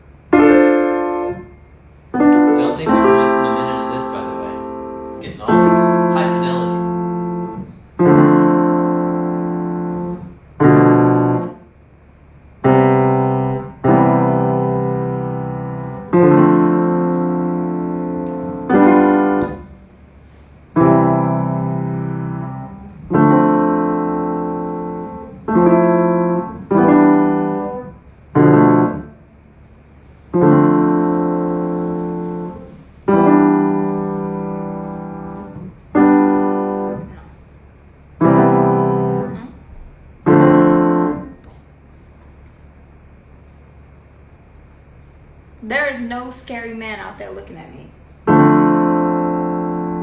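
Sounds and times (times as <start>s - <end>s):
piano chords played slowly: 0.0s - 11.6s, 12.6s - 29.3s, 30.3s - 37.4s, 38.2s - 41.6s, 48.2s - 50.0s.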